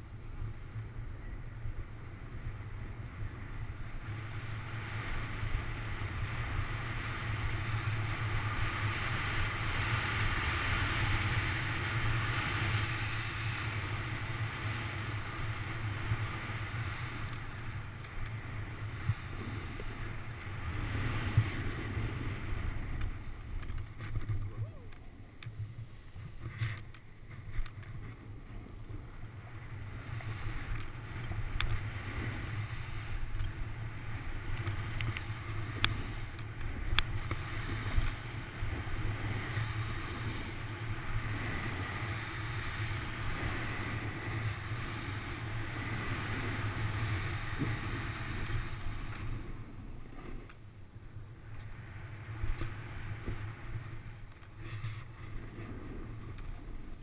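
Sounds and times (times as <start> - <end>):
snowboard scraping over snow: 0.0 - 24.8, 25.5 - 57.0
wind rumbling on microphone: 0.0 - 57.0.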